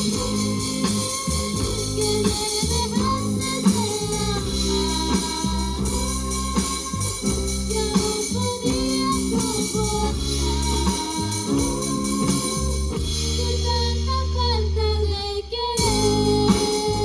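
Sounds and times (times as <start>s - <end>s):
band playing a song: 0.0s - 14.4s, 15.8s - 17.0s
cymbals: 0.0s - 14.4s, 15.8s - 17.0s
person singing: 0.0s - 17.0s.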